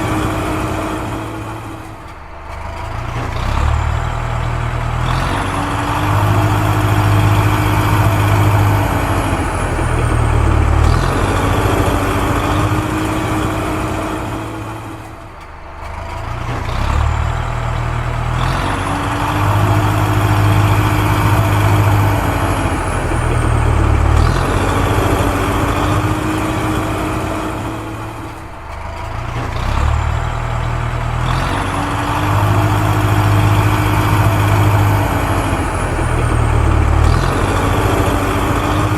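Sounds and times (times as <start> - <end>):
heavy diesel engine drone: 0.0 - 38.9.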